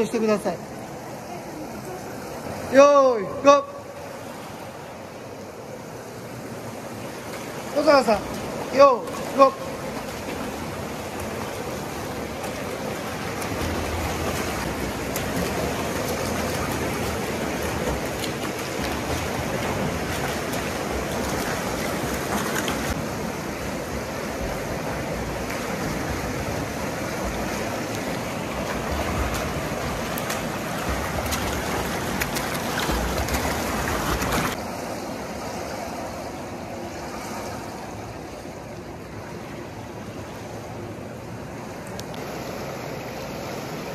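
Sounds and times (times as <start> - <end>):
swimmers splashing: 0.0 - 40.7.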